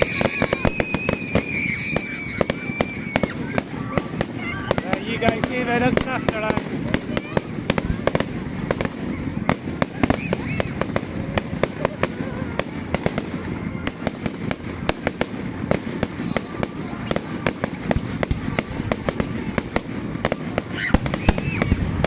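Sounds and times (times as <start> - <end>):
fireworks crackling and popping: 0.0 - 22.0
low background murmur: 0.0 - 22.0.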